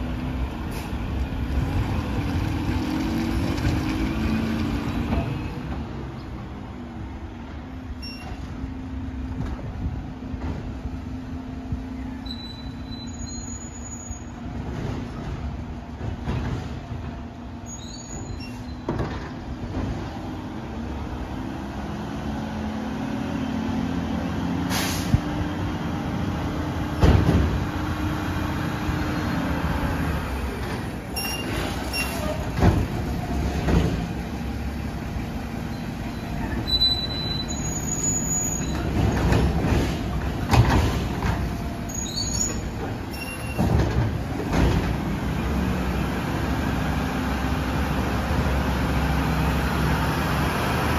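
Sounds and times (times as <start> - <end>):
garbage truck engine drone: 0.0 - 50.9.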